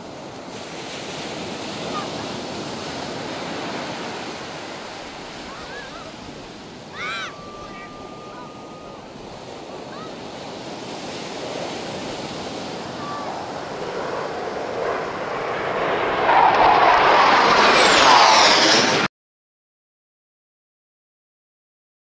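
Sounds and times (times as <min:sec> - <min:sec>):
fighter jets passing overhead: 0:00.0 - 0:19.1.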